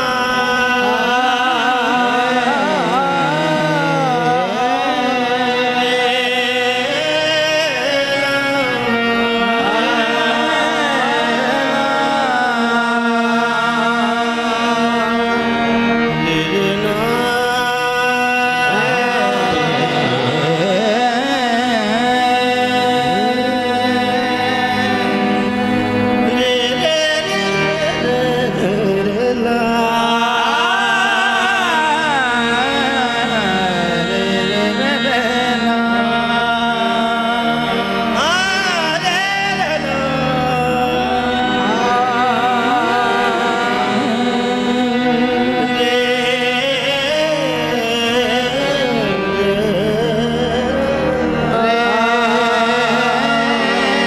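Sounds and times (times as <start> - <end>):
harmonium notes: 0.0 - 54.0
man singing: 0.0 - 54.0.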